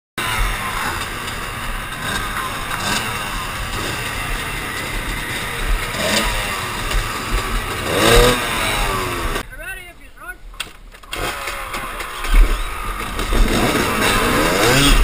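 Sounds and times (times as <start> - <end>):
dirt bike engines idling and revving: 0.2 - 15.0.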